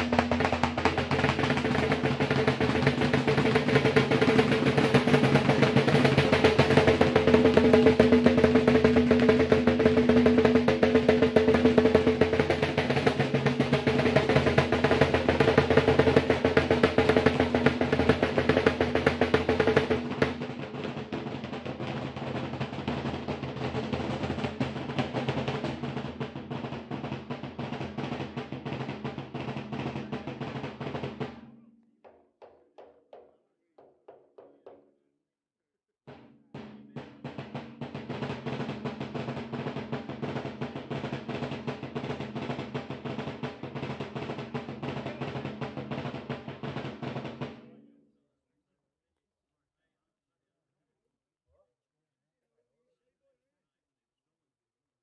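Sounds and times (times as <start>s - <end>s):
drum beaten in fast rattle: 0.0s - 34.8s, 36.1s - 47.8s.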